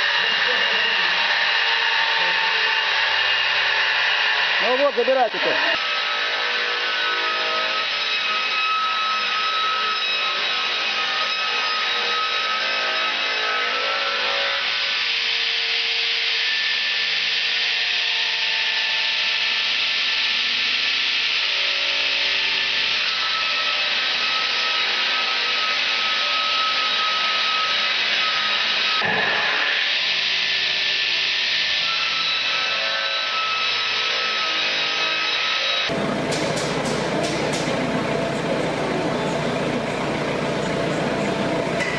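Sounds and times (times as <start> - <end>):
sawmill blade whine: 0.0 - 41.9.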